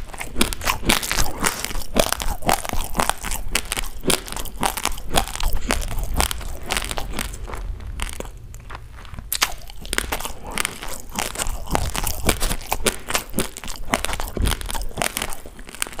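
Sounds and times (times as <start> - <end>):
rice grains crunched and chewed: 0.0 - 16.0.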